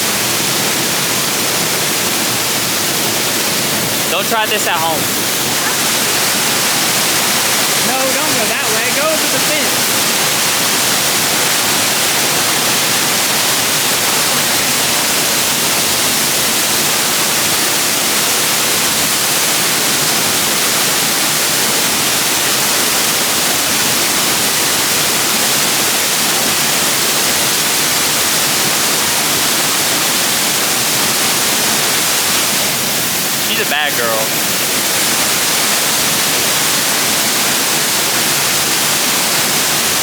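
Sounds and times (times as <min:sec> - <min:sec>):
waterfall roaring: 0:00.0 - 0:40.0.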